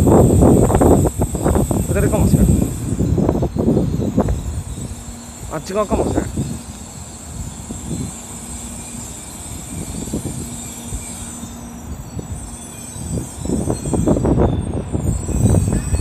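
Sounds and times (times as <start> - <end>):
low train rumbling: 0.0 - 16.0
train brakes squealing: 0.0 - 16.0.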